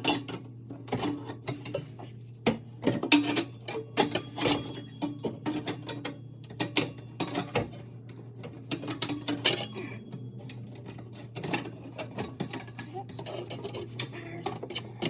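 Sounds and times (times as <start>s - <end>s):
metal pipes clinking and clanking: 2.8s - 15.0s.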